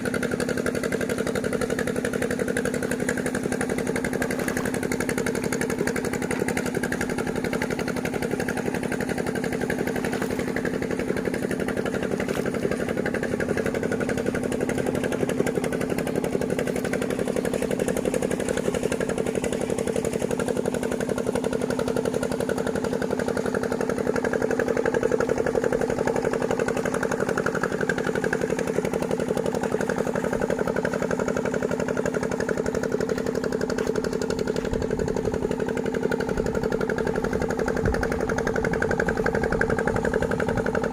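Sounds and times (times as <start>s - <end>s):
engine humming steadily: 0.0s - 40.9s.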